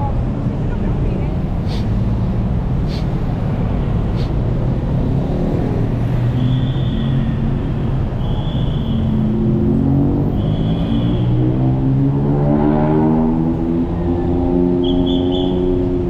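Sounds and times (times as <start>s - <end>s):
traffic engines rumbling: 0.0s - 16.0s
vehicle accelerating: 1.4s - 16.0s.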